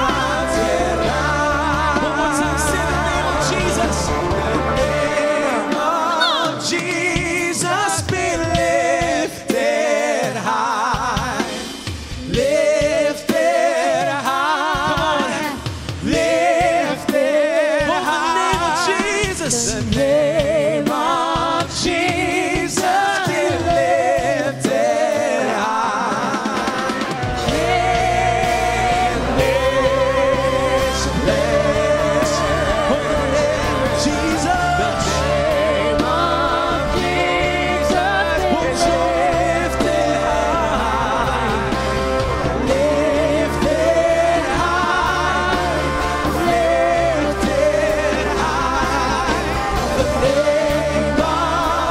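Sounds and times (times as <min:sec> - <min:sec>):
person singing with vibrato: 0:00.0 - 0:51.9.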